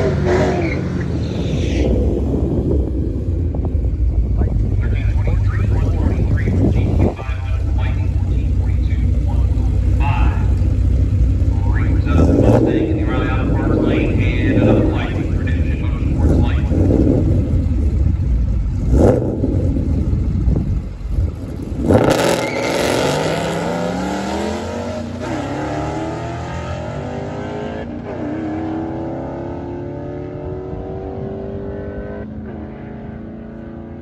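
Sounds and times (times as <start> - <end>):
drag racing engines rumbling: 0.0 - 34.0
engines revving: 0.0 - 34.0
vehicles accelerating away: 0.0 - 34.0.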